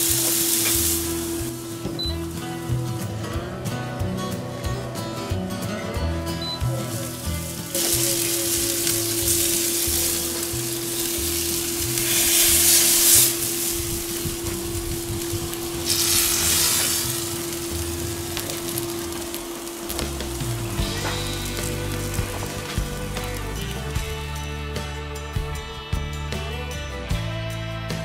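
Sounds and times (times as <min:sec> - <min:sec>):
steak sizzling on a grill: 0:00.0 - 0:24.5
background music: 0:00.0 - 0:28.0.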